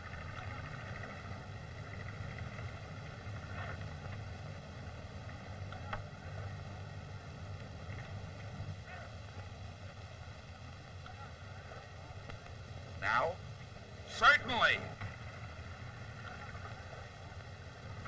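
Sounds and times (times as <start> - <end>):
film soundtrack rumble and hiss: 0.0 - 18.0.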